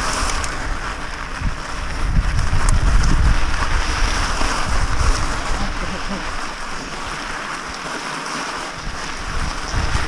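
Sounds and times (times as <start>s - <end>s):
wind buffeting microphone: 0.0s - 7.4s, 8.7s - 10.0s
bike tyres crunching on gravel: 0.0s - 10.0s.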